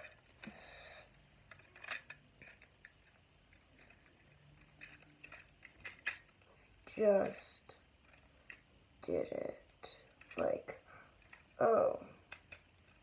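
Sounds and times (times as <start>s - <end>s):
plastic lego pieces clicking: 0.0s - 13.0s.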